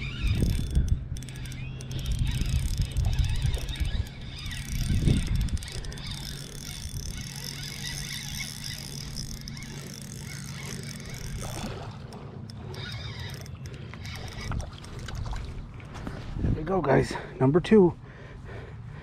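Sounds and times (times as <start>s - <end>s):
fishing reel cranking: 0.0s - 15.6s
steady low hum: 0.0s - 19.0s.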